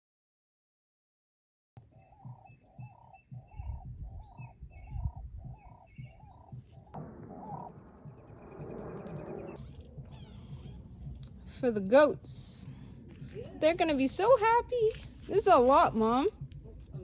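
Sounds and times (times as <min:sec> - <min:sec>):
bird calling: 0:01.8 - 0:16.4.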